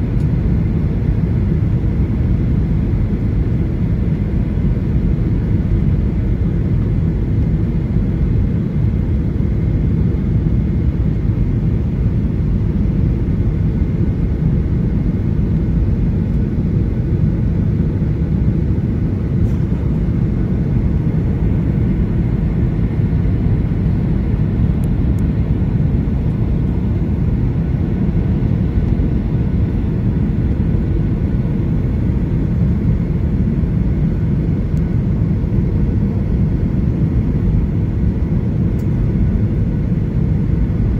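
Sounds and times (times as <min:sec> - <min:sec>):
airplane cabin rumble: 0:00.0 - 0:40.9
faint steady whine: 0:00.0 - 0:40.9.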